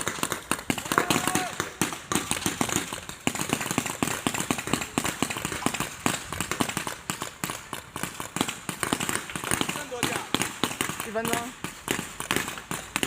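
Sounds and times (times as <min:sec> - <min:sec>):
airsoft gunfire cracks: 0:00.0 - 0:13.0.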